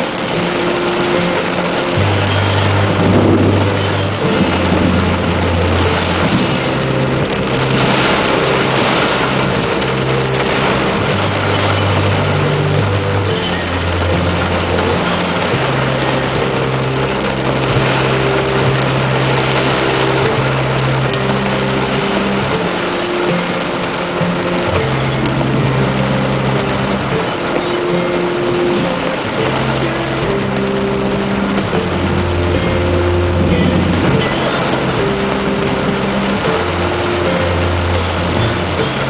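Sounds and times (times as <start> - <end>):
heavy rain: 0.0 - 39.0
low synthesizer notes: 0.0 - 39.0.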